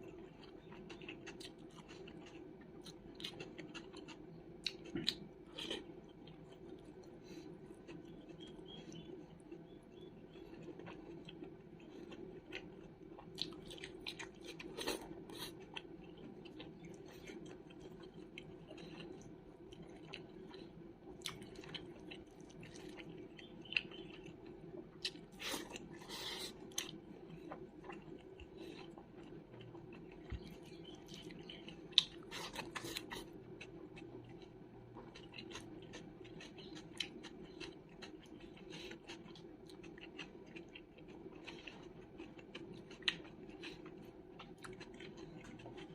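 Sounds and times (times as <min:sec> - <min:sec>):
faint steady hum: 0:00.0 - 0:45.9
person chewing food: 0:00.0 - 0:45.9.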